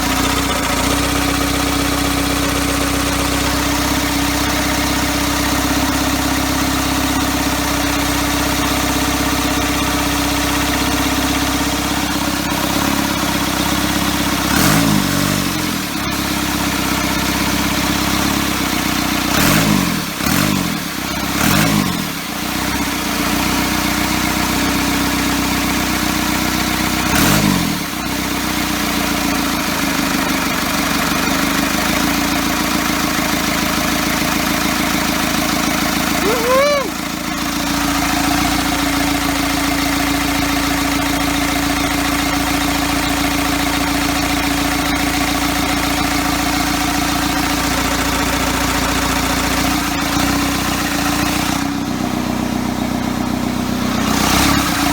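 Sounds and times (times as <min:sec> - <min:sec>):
diesel engine idling and revving: 0:00.0 - 0:54.9.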